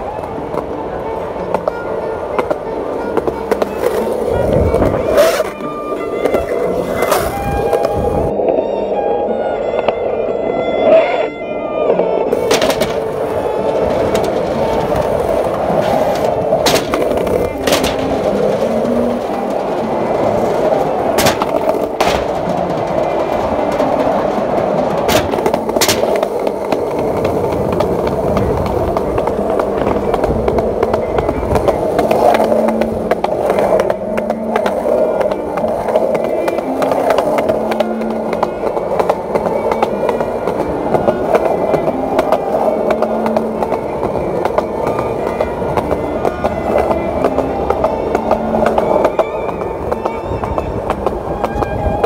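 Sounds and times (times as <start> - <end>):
skateboard clacks: 0.0 - 8.7, 11.9 - 52.0
faint music: 0.0 - 52.0
skateboard wheels rolling on concrete: 0.0 - 52.0.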